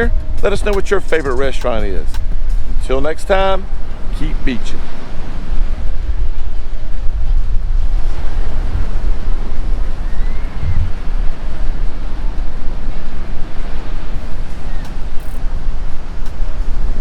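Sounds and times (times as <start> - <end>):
ocean surf washing in: 0.0 - 14.8
wind buffeting microphone: 0.0 - 17.0.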